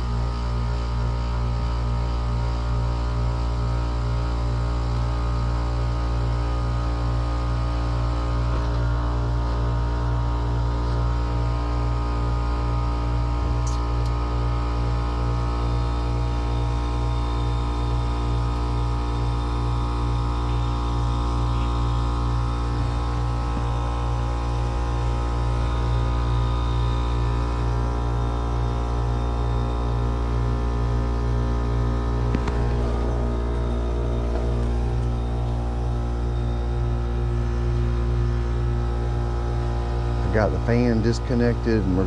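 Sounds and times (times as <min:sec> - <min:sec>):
compressor humming: 0:00.0 - 0:42.0.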